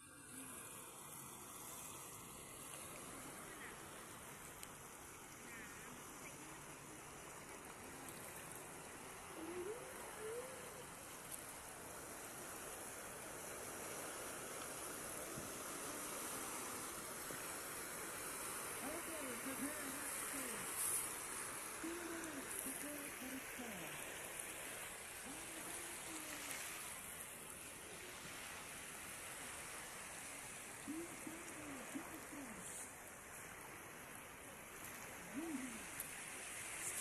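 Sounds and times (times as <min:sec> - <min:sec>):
sea water washing on shore: 0:00.0 - 0:37.0.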